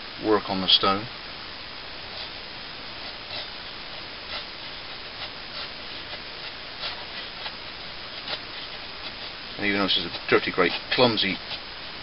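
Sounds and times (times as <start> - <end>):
steady hiss: 0.0 - 12.0
blade scraping wood: 2.1 - 11.9.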